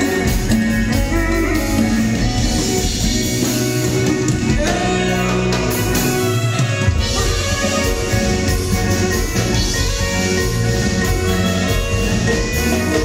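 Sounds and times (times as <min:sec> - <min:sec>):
bass: 0:00.0 - 0:13.0
drums: 0:00.0 - 0:13.0
electric guitar: 0:00.0 - 0:13.0
keyboards: 0:00.0 - 0:13.0.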